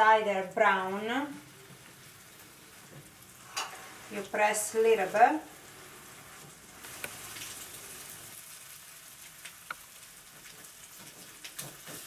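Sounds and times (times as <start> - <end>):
toast sizzling in butter: 0.5 - 12.0.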